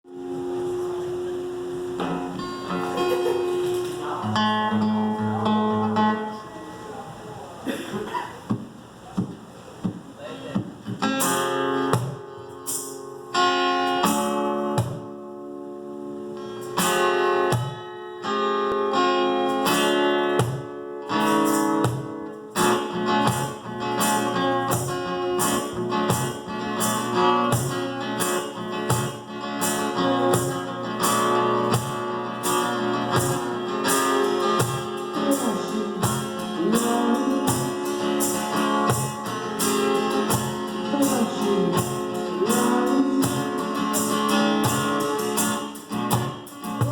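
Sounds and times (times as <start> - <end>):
acoustic guitar strumming chords: 0.0 - 46.9.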